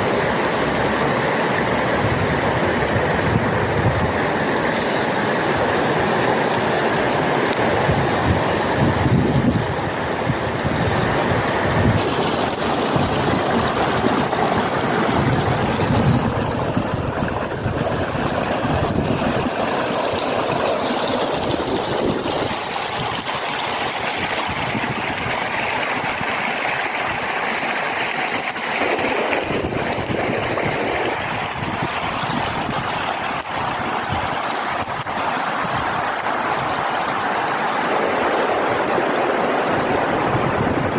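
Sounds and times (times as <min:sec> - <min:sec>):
river water rushing and splashing: 0:00.0 - 0:40.9
wind buffeting microphone: 0:01.8 - 0:04.6, 0:07.0 - 0:26.5, 0:29.0 - 0:40.9.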